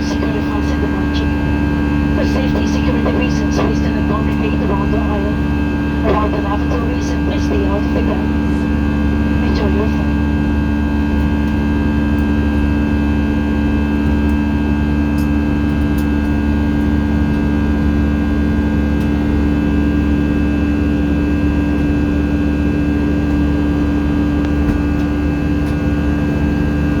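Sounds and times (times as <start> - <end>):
airliner cabin engine drone: 0.0 - 27.0.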